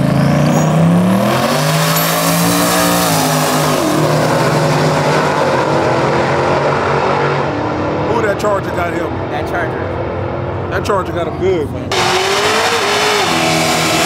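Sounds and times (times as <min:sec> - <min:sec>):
cars accelerating at full throttle: 0:00.0 - 0:14.0.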